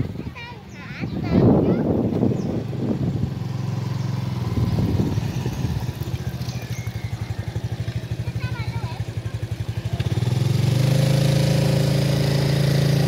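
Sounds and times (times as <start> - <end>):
small engine putting: 1.9 - 13.0.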